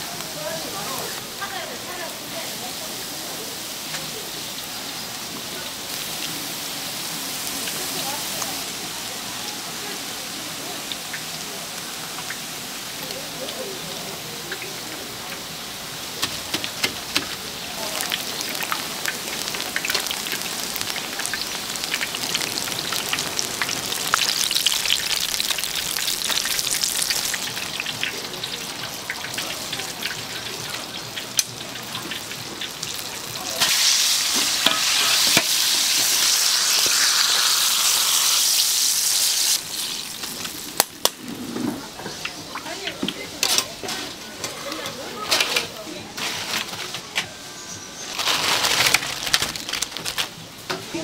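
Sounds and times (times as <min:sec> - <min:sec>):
food deep-frying in oil: 0:00.0 - 0:51.0.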